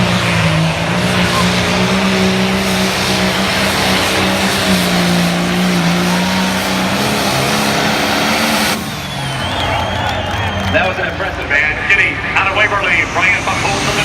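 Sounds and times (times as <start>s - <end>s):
tractor diesel engine at high revs: 0.0s - 14.0s.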